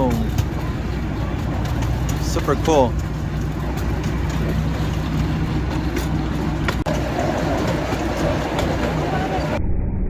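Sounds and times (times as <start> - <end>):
train rumbling along track: 0.0 - 9.6.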